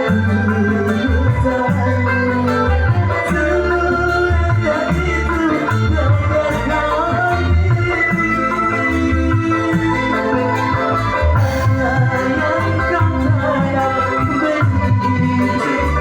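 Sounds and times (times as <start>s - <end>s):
band playing instrumental music: 0.0s - 16.0s
gliding lead melody: 0.0s - 16.0s
steady bass line: 0.0s - 16.0s.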